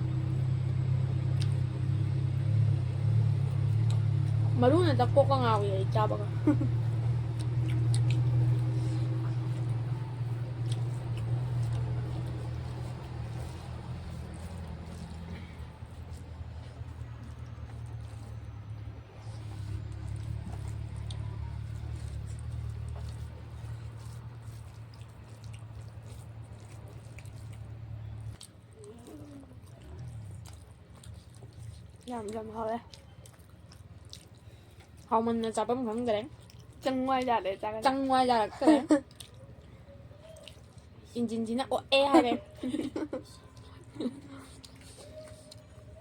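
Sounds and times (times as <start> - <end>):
low steady hum: 0.0 - 46.0
vehicle engine rumble: 0.0 - 46.0
wet chewing: 0.0 - 46.0.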